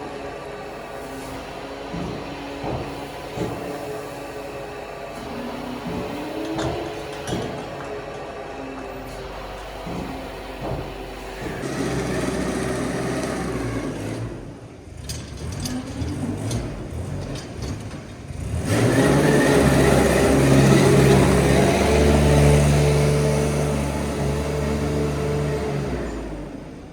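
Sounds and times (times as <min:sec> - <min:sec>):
engine running: 0:00.0 - 0:26.9.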